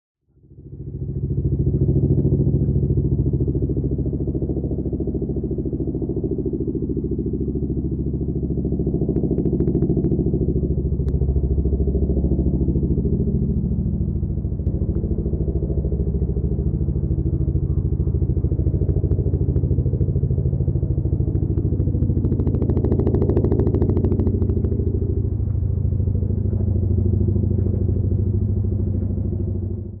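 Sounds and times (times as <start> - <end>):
deep engine drone: 0.2 - 30.0
helicopter rotor chop: 0.8 - 30.0.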